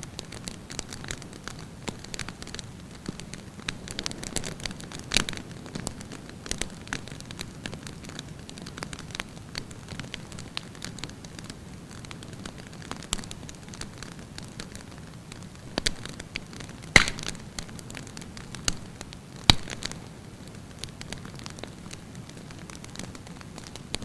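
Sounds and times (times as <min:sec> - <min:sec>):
campfire burning: 0:00.0 - 0:24.0
fire crackling and popping: 0:00.0 - 0:24.0.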